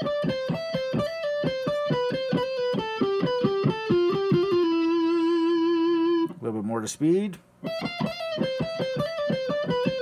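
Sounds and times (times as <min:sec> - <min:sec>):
electric guitar lead lick: 0:00.0 - 0:06.4, 0:07.6 - 0:10.0.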